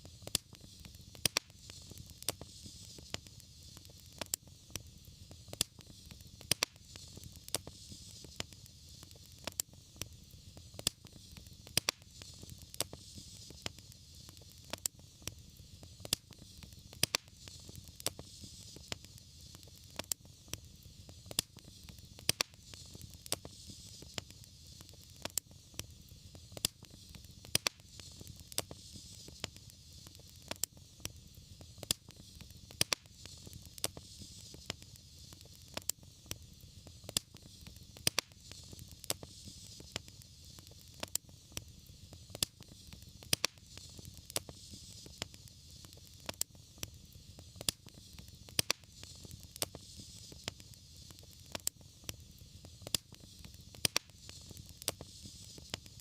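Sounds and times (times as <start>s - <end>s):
fire crackling and popping: 0.0s - 56.0s
fire hissing and rumbling: 0.0s - 56.0s.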